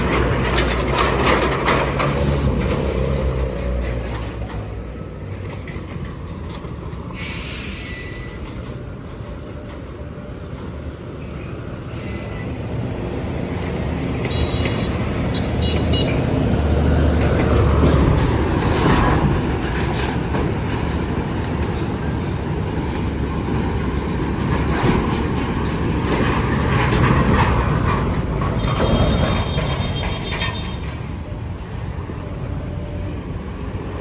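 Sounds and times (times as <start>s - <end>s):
road traffic: 0.0s - 34.0s
truck diesel engine rumbling past: 0.0s - 34.0s.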